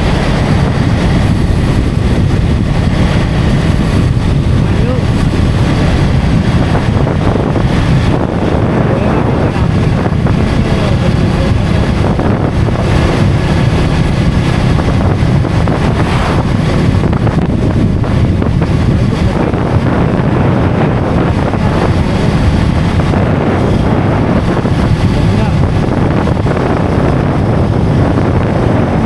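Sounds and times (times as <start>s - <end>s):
motorcycle engine running: 0.0s - 29.0s
tyre noise on road: 0.0s - 29.0s
wind buffeting microphone: 0.0s - 29.0s.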